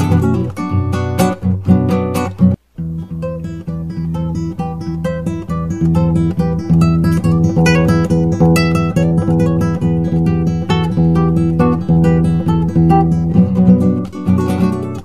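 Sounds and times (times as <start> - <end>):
plucked-string music: 0.0 - 15.0.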